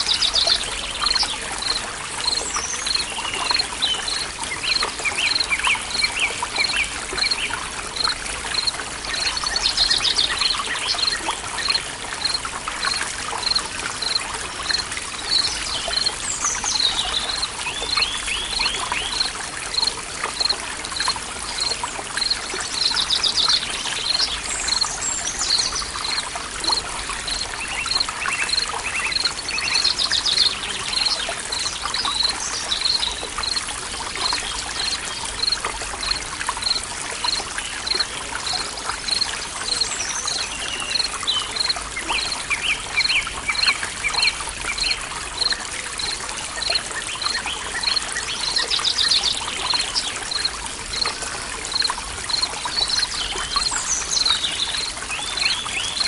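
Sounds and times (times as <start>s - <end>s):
stream trickling: 0.0s - 56.0s.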